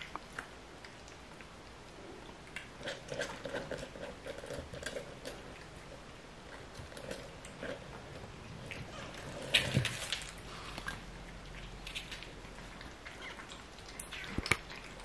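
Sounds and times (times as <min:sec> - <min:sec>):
cat chewing wet food: 0:00.0 - 0:15.0.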